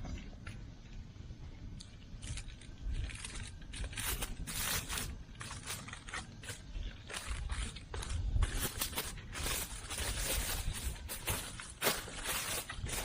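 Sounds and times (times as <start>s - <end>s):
scraping and crinkling handling: 1.8s - 13.0s.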